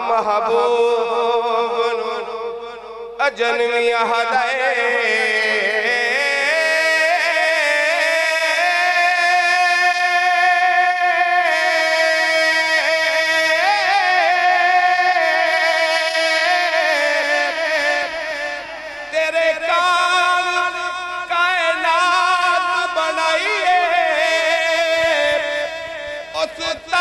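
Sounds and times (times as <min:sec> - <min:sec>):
man singing into a microphone: 0:00.0 - 0:27.0.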